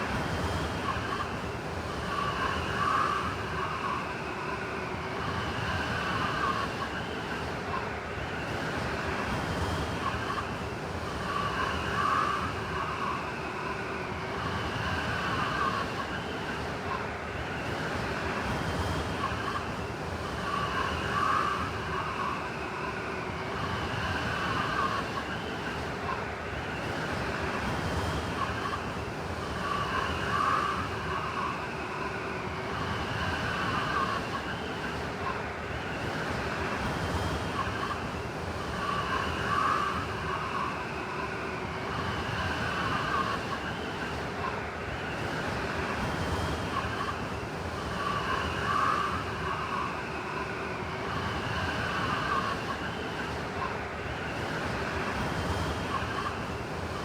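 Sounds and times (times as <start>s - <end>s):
blizzard wind howling: 0.0s - 57.0s.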